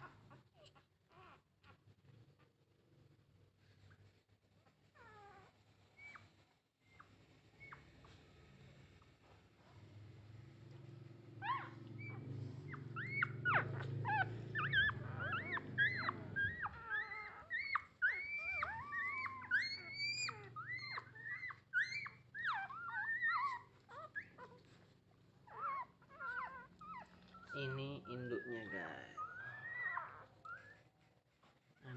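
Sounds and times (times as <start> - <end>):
puppies whimpering and squeaking: 0.0 - 2.8, 4.6 - 8.3, 10.7 - 31.9.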